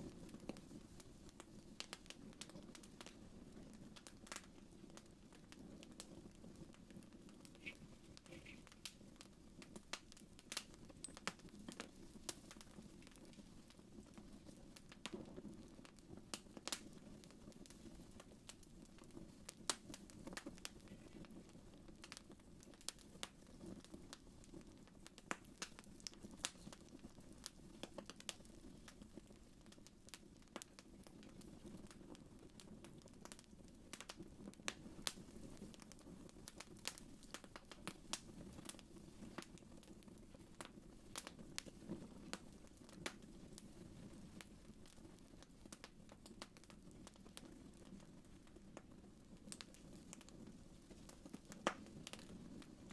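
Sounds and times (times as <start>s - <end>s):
fireplace fire crackling: 0.0s - 52.9s.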